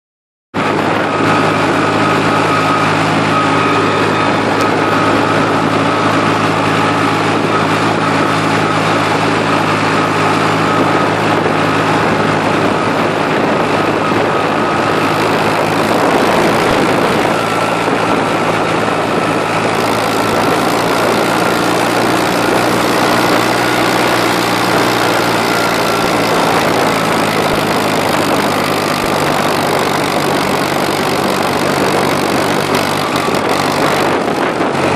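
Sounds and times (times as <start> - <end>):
tractor diesel engine idling: 0.6 - 34.9.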